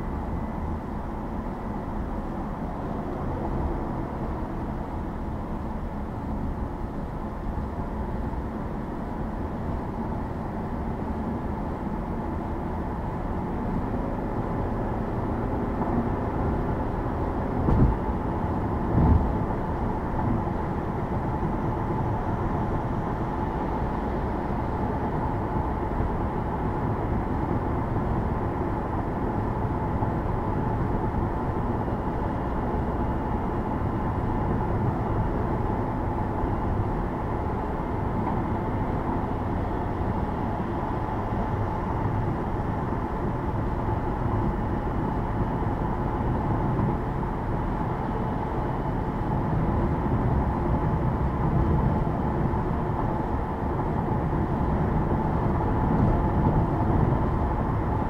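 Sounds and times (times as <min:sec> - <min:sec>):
car road and tyre noise: 0:00.0 - 0:58.0.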